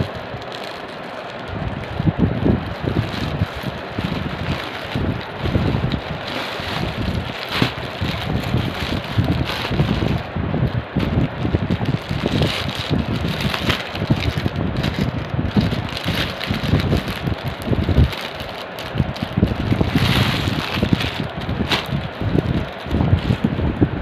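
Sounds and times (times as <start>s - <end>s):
rustling: 0.0s - 23.9s
wind buffeting microphone: 0.0s - 24.0s.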